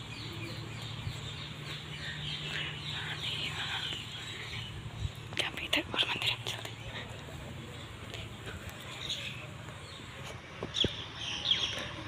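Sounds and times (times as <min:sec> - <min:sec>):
birds chirping: 0:00.0 - 0:12.0
low steady hum: 0:00.0 - 0:12.0.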